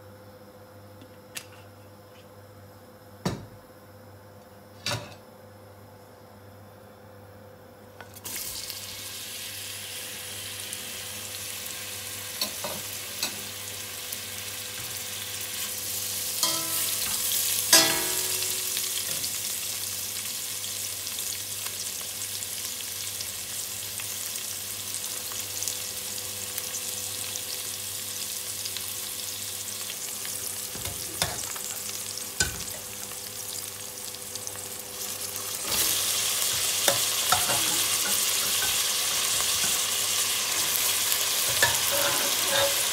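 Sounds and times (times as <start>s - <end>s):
onions sizzling in hot oil: 8.1s - 42.9s.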